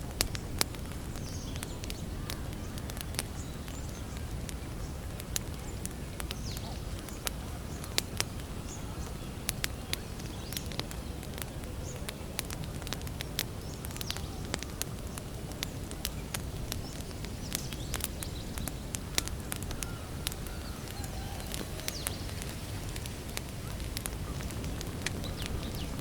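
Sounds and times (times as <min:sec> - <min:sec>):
campfire crackling and popping: 0:00.0 - 0:26.0
low rumble of fire: 0:00.0 - 0:26.0.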